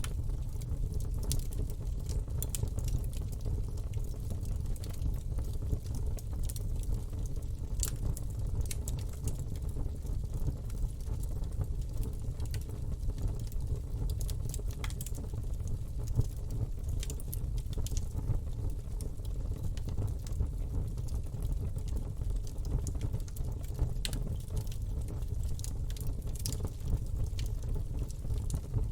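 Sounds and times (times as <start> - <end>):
low rumble of flames: 0.0 - 28.9
wood crackling and popping: 0.0 - 28.9.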